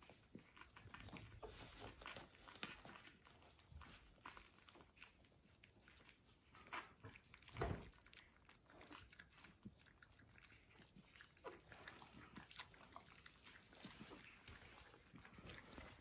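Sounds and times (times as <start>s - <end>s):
puppies suckling: 0.0s - 16.0s.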